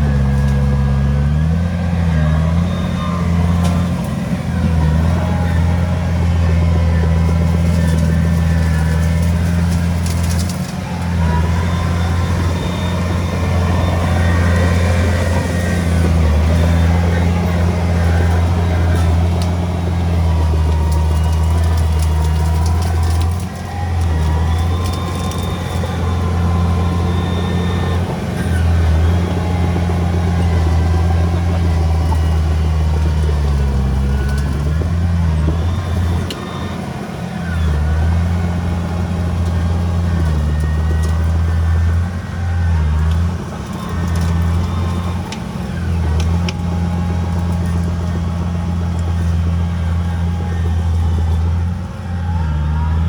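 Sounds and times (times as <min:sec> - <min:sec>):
heavy diesel engine under load: 0:00.0 - 0:53.0.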